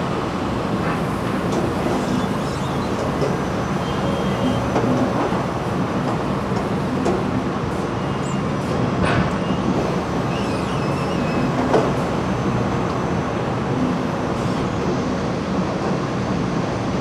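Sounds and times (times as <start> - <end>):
motors and conveyors humming: 0.0 - 15.6.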